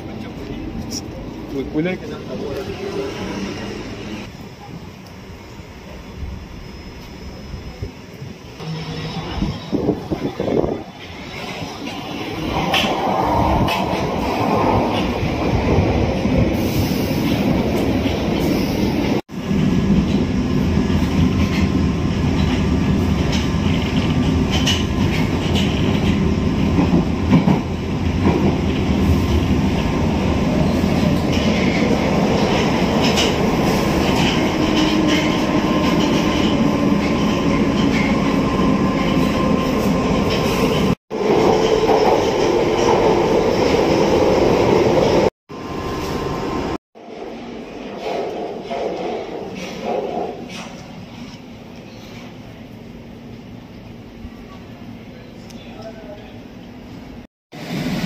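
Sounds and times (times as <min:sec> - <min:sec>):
train wheels rumbling on rails: 0:05.8 - 0:56.9.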